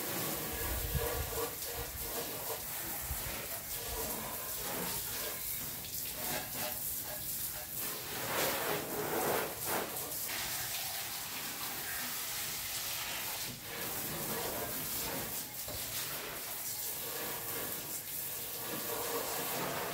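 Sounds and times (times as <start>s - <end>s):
hose water splashing: 0.0s - 19.9s.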